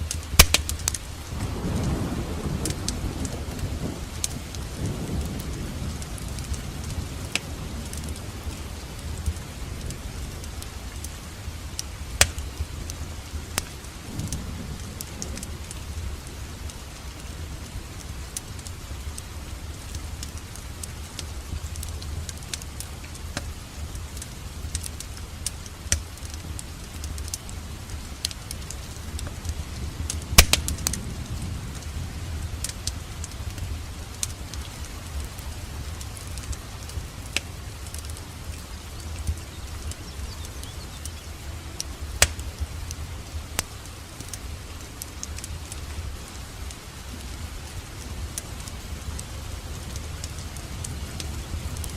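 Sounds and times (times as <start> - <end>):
fire crackling and popping: 0.0 - 51.9
fire rumbling: 0.0 - 51.9.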